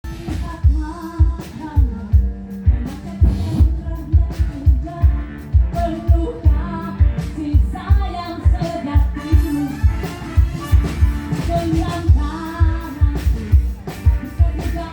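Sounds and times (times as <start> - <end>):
live band playing pop song: 0.0 - 14.9.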